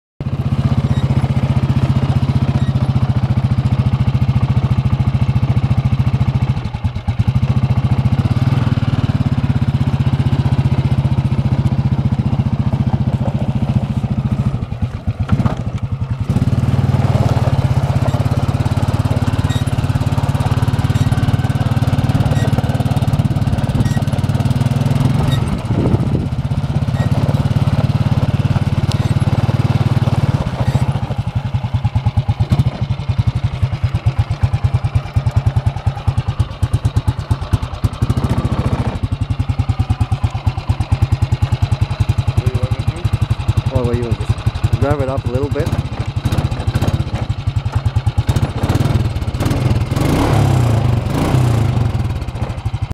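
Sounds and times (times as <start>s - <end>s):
atv engine running: 0.2s - 52.9s.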